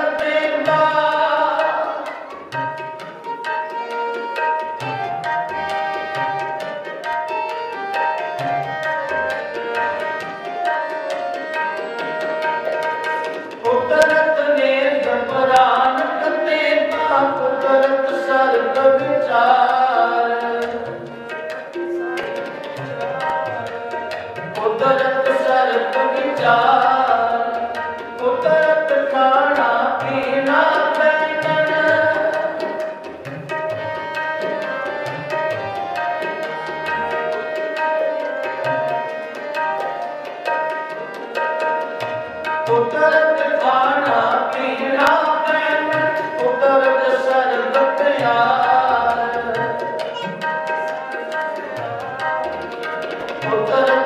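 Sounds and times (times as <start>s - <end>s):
harmonium chords: 0.0s - 54.0s
tabla strokes: 0.0s - 54.0s.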